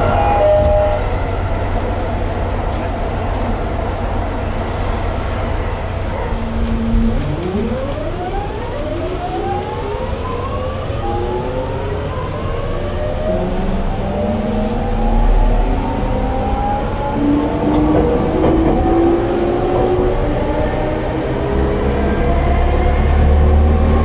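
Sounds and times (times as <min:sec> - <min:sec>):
electric train inverter whine: 0:00.0 - 0:24.0
train running rumble: 0:00.0 - 0:24.0.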